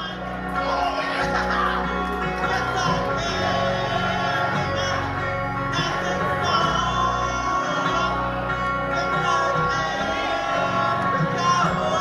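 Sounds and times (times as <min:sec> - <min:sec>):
electric guitars: 0:00.0 - 0:12.0
person singing: 0:00.0 - 0:12.0.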